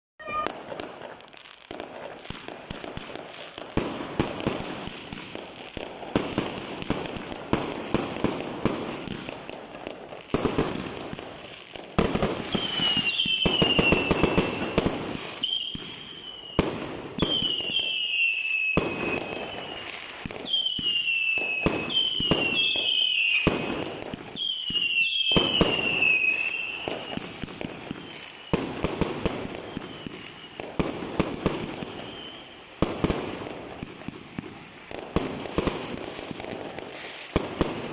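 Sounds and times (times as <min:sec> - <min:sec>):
whistling firework shells: 0:00.2 - 0:07.4, 0:10.4 - 0:37.9
fireworks crackling and banging: 0:00.2 - 0:37.9.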